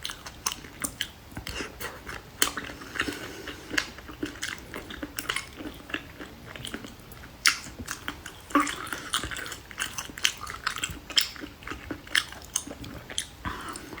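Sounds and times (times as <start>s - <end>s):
chewing with wet mouth clicks: 0.0s - 14.0s.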